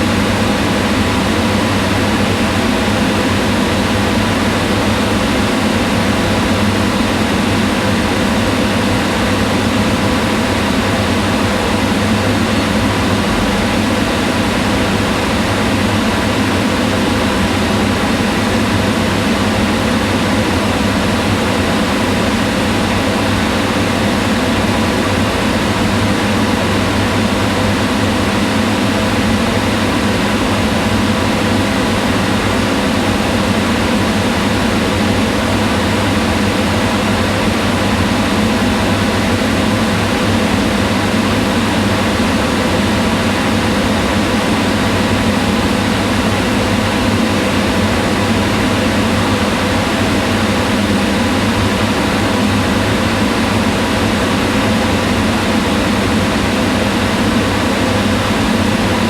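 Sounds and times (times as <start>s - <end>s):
range hood fan running: 0.0s - 59.0s.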